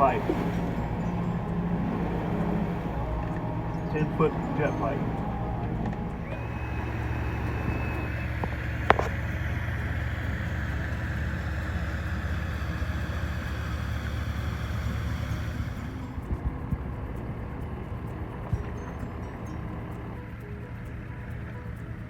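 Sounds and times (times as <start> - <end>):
heavy machinery humming: 0.0 - 22.0.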